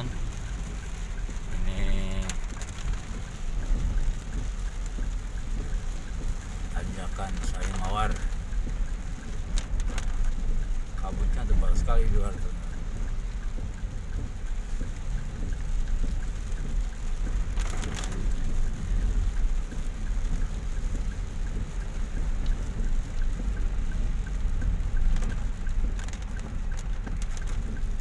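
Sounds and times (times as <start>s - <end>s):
rain on windshield: 0.0s - 28.0s
road and engine rumble: 0.0s - 28.0s.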